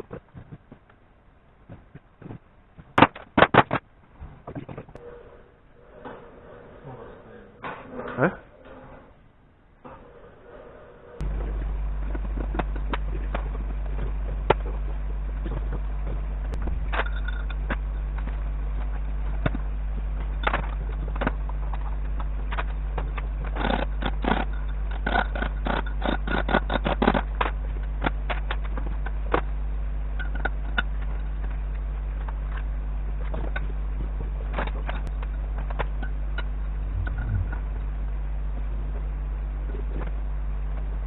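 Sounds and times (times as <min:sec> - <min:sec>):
low electrical hum: 0:03.9 - 0:41.0.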